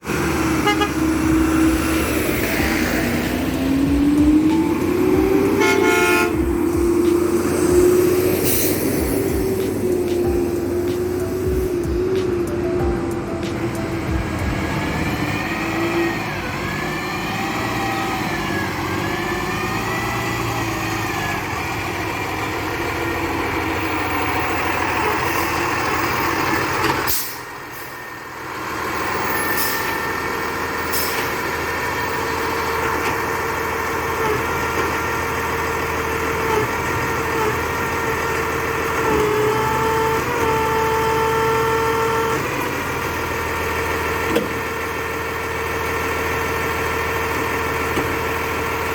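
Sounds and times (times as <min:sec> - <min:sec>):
recycling truck whining: 0:00.0 - 0:48.9.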